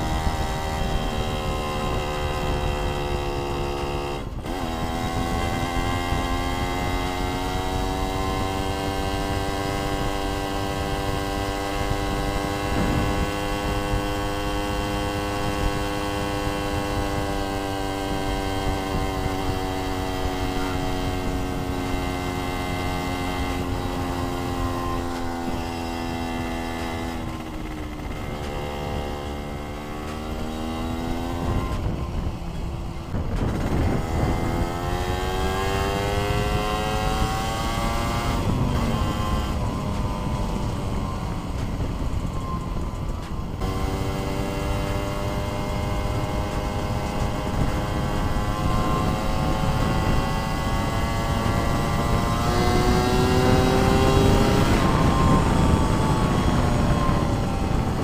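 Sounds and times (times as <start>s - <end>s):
two-stroke motorcycle engine: 0.0s - 58.0s
wind noise on microphone: 0.0s - 58.0s.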